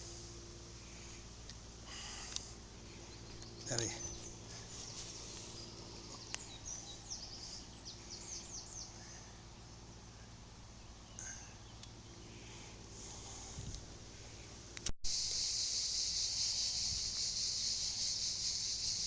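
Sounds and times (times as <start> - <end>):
faint background noise: 0.0 - 19.0
songbird singing: 0.0 - 19.0.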